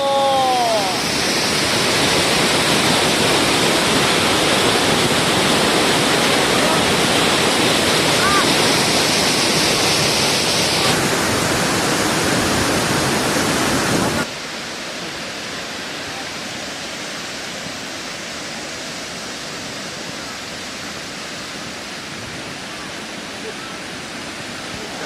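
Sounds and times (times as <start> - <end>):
large waterfall rushing: 0.0 - 25.0.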